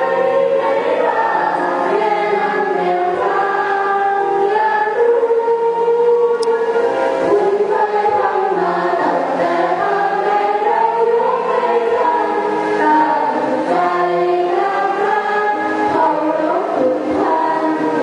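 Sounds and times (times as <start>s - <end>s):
choir singing in harmony: 0.0s - 18.0s.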